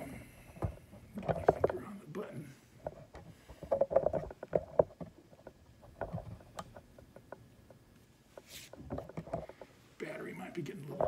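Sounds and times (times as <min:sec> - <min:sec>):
faint rustling: 0:00.0 - 0:10.1.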